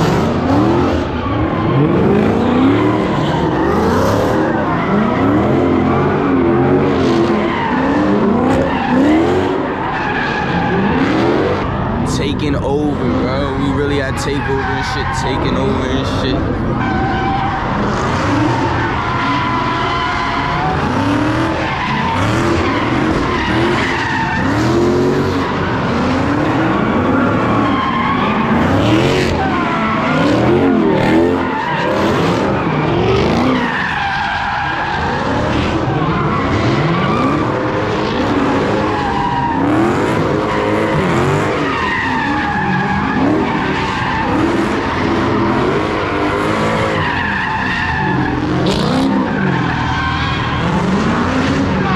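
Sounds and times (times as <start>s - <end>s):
car engines revving hard: 0.0s - 51.9s
tires squealing: 0.0s - 51.9s.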